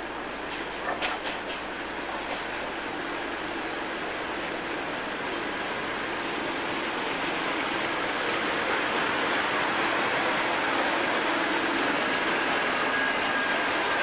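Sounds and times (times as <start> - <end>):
diesel locomotive engine running: 0.0 - 14.0
train wheels rumbling on rails: 0.0 - 14.0.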